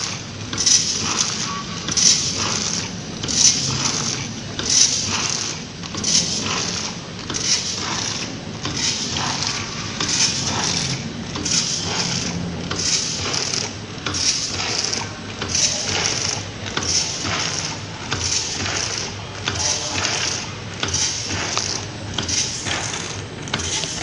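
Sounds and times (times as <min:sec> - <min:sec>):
packing machine clatter: 0:00.0 - 0:24.0
steady machine hum: 0:00.0 - 0:24.0.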